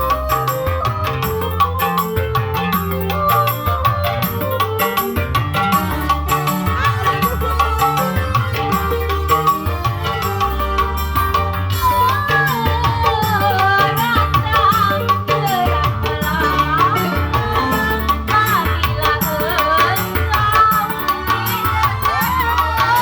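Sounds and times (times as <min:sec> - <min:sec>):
bass: 0:00.0 - 0:23.0
hand drum percussion: 0:00.0 - 0:23.0.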